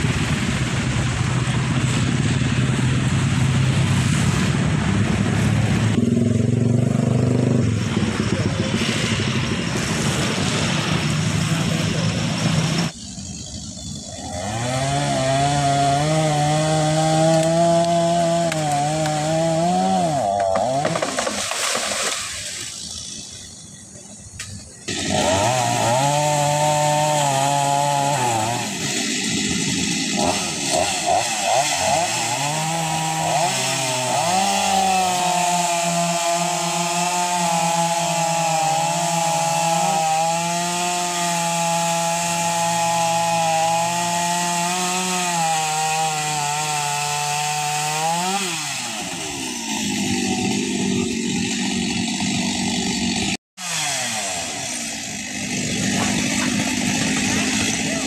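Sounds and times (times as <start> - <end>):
chainsaw cutting wood: 8.7 - 23.6, 24.4 - 58.0.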